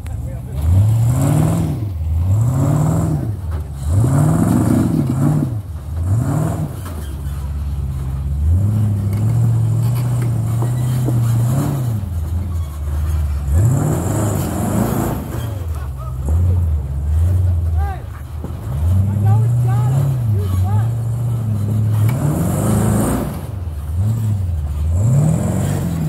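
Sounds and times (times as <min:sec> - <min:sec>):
engine revving in throttle blips: 0:00.0 - 0:26.0.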